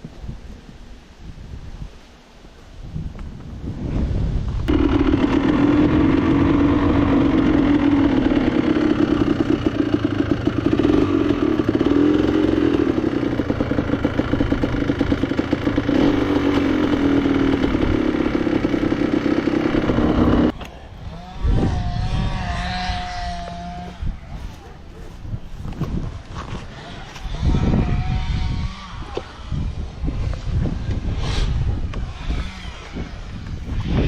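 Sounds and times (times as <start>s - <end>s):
motorcycle engine revving: 4.5s - 34.0s.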